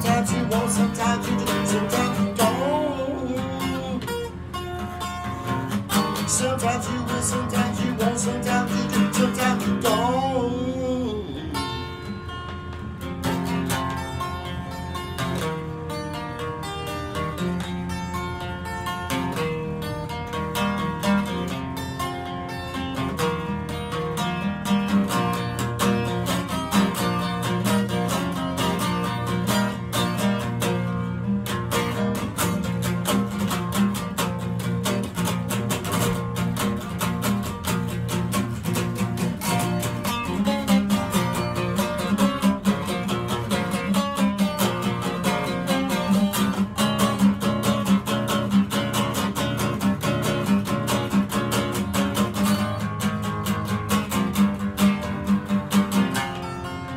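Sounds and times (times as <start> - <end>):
acoustic guitar strumming: 0.0 - 56.9.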